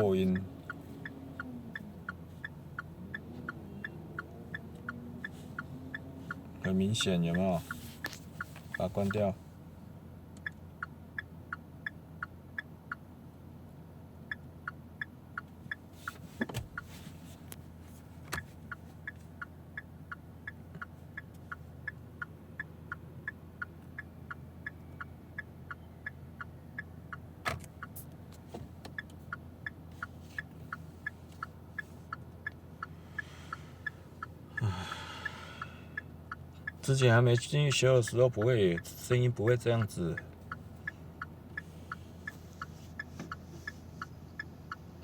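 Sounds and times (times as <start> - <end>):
distorted turn signal ticking: 0.0 - 45.0.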